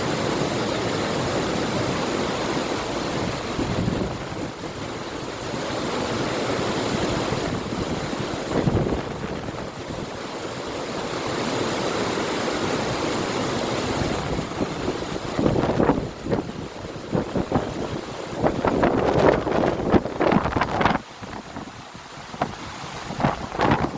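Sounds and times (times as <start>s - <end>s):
river water rushing: 0.0s - 23.9s
wind on microphone: 0.2s - 10.3s, 12.7s - 23.9s.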